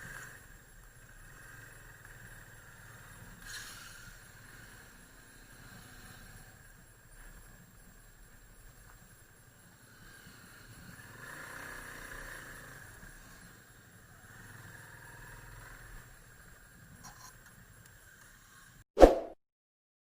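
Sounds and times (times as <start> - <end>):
faint motorcycle engine running: 0.0 - 18.8.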